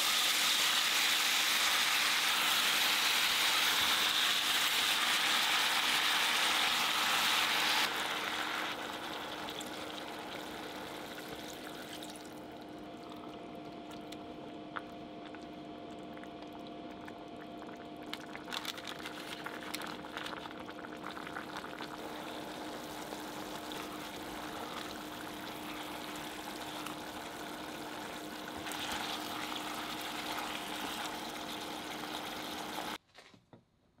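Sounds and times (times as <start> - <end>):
liquid bubbling and sizzling in pot: 0.0 - 33.0
faint hum: 1.4 - 33.0.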